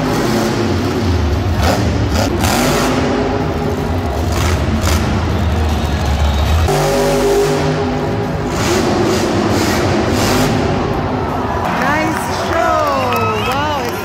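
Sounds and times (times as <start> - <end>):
truck engine at high revs: 0.0 - 11.6.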